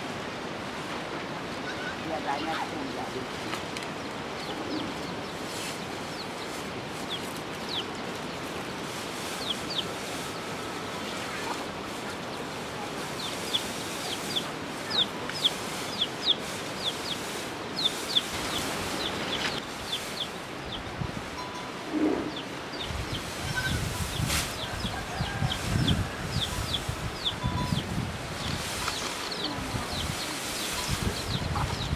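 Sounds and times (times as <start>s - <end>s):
background hiss: 0.0s - 31.9s
chicks peeping: 4.3s - 20.9s, 22.2s - 31.9s.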